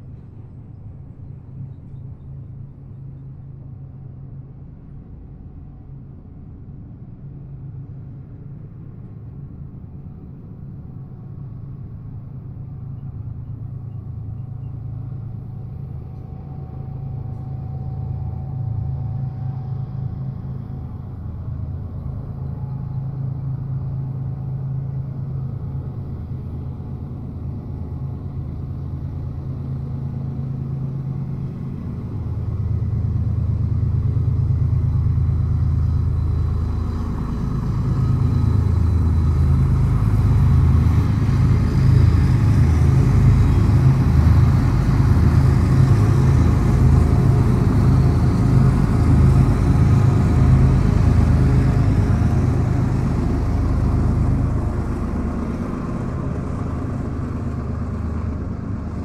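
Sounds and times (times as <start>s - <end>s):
freight train rumble: 0.0s - 59.0s.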